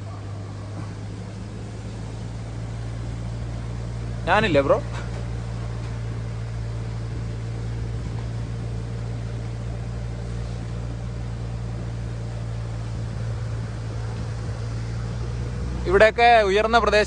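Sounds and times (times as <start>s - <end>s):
diesel engine low hum: 0.0s - 17.0s.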